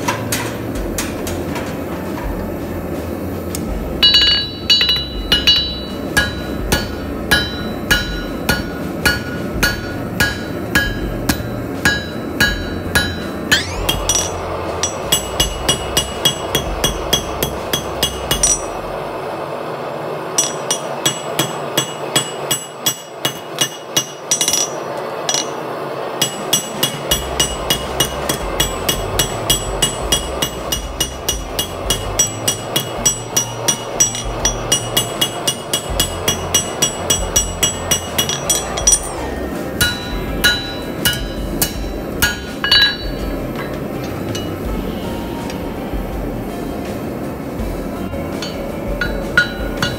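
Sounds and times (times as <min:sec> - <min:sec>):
hammer striking metal on anvil: 0:03.5 - 0:18.9, 0:20.4 - 0:44.9, 0:48.3 - 0:49.9.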